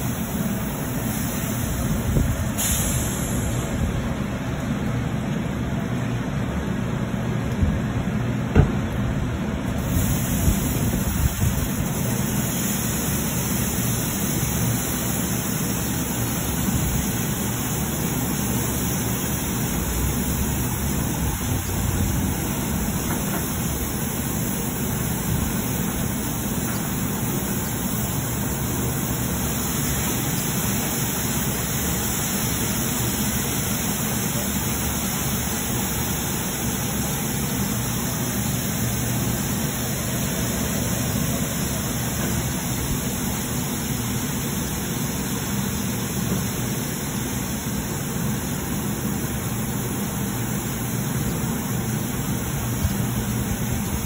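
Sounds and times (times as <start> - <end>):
car wash water spraying: 0.0 - 54.0.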